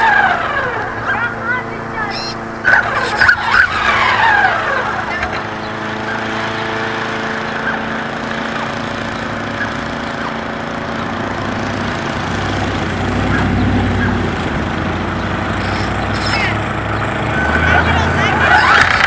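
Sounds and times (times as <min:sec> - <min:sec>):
small motor humming: 0:00.0 - 0:19.0.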